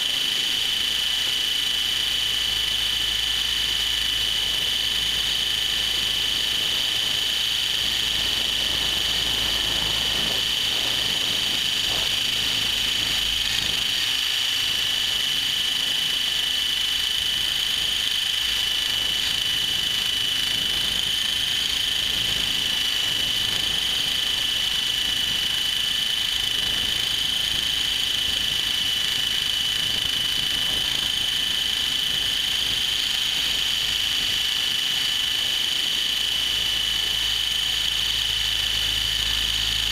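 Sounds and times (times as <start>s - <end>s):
helicopter rotor noise: 0.0s - 39.9s
high-pitched motor whine: 0.0s - 39.9s.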